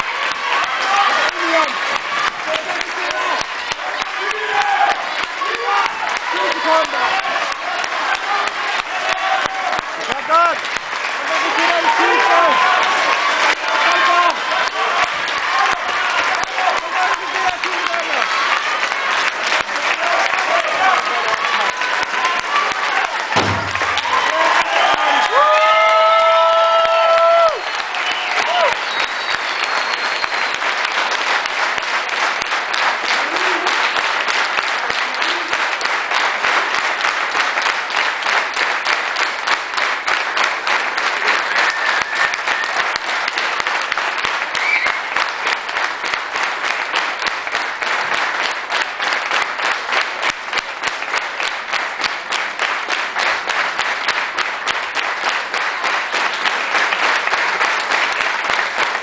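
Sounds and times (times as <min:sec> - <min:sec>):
audience clapping: 0:00.0 - 0:59.0.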